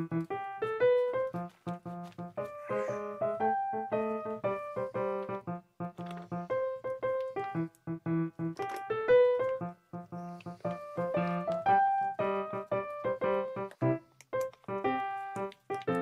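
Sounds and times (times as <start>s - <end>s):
keyboard tune: 0.0s - 16.0s.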